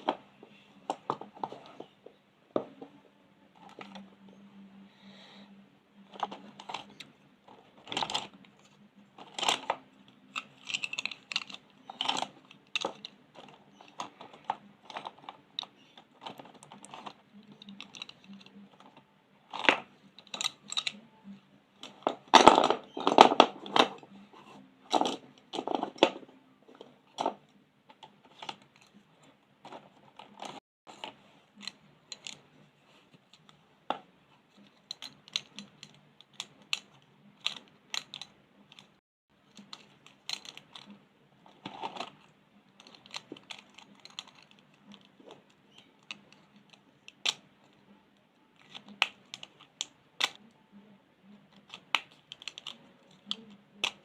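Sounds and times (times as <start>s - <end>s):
pens and pencils on paper: 0.0s - 54.0s.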